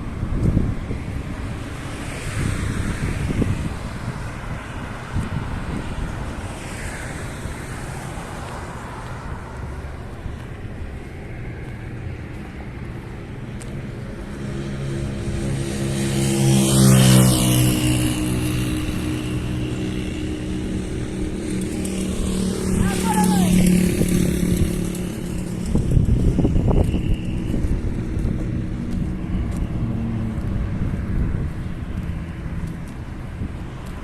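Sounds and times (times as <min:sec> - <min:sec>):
street traffic: 0:00.0 - 0:34.0
vehicle driving past: 0:01.1 - 0:34.0.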